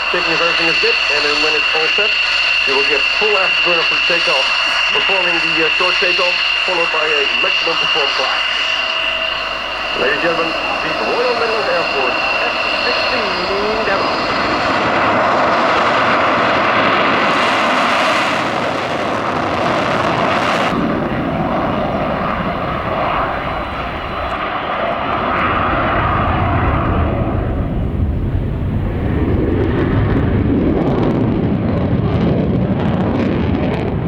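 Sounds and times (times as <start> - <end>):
fighter jet afterburner roar: 0.0 - 34.0.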